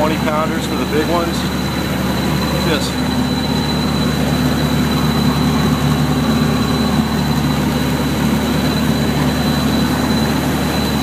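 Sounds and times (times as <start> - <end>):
boat engine humming: 0.0 - 11.0
constant wash of noise: 0.0 - 11.0
high whine: 0.0 - 11.0.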